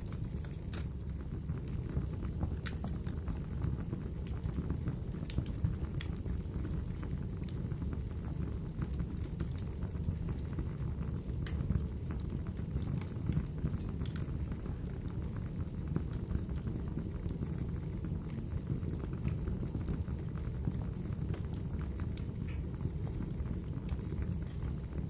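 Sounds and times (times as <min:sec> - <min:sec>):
fire popping: 0:00.0 - 0:25.0
low hiss of flames: 0:00.0 - 0:25.0.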